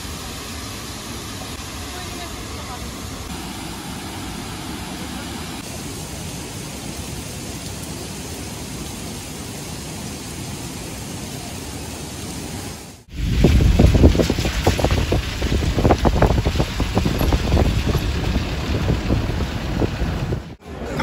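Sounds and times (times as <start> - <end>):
falling water rushing: 0.0 - 21.0.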